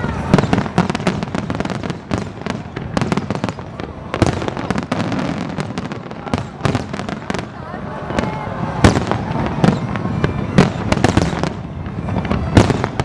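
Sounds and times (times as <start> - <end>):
fireworks bursts and crackling: 0.0 - 13.0
loud fireworks bangs: 0.0 - 13.0.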